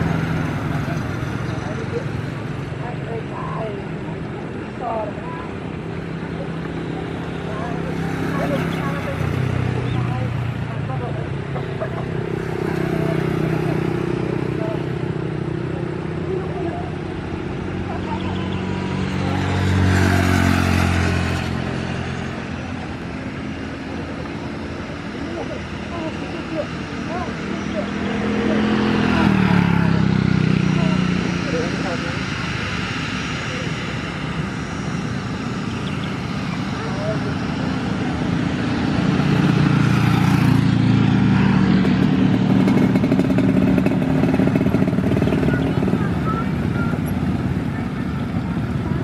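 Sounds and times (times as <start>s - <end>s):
low engine drone: 0.0s - 49.0s
passing vehicle engine: 0.0s - 49.0s.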